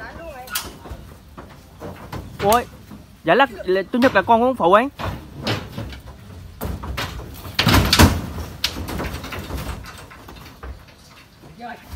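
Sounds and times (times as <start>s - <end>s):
hooves clattering on steel ramp: 0.0s - 11.9s.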